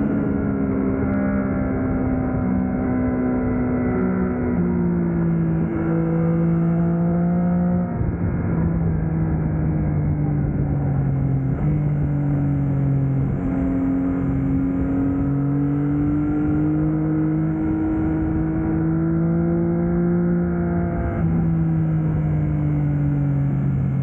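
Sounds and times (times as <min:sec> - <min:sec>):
motorcycle engine while riding: 0:00.0 - 0:24.0.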